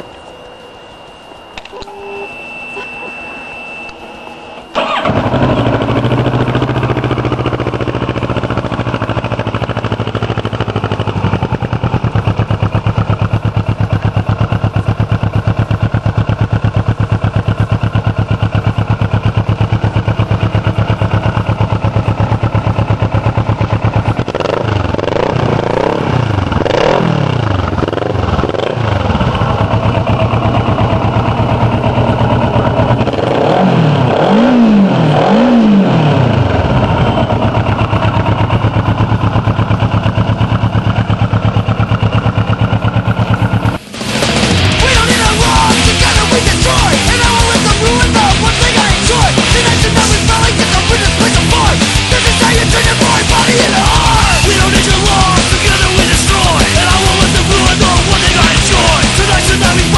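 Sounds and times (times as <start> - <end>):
engine revving: 4.7 - 59.9
motorcycle engine idling: 4.8 - 34.2, 34.8 - 59.9.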